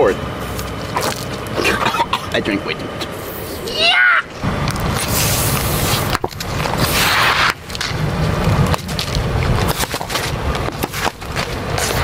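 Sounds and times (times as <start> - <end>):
truck rumble: 0.0 - 12.0.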